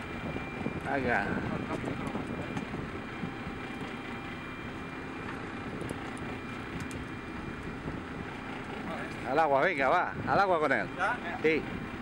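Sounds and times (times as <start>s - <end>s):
boat noise: 0.0s - 12.0s
wind rumble: 0.0s - 12.0s.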